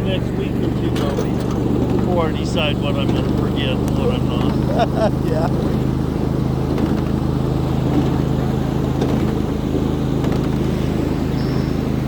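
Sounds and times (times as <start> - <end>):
ride-on train engine drone: 0.0 - 12.0
wheels clicking on rails: 0.0 - 12.0.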